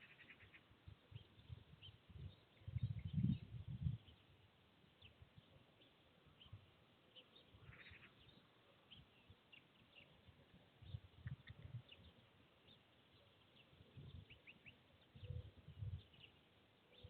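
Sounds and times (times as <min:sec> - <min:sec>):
distant songbirds chirping: 0:00.0 - 0:17.0.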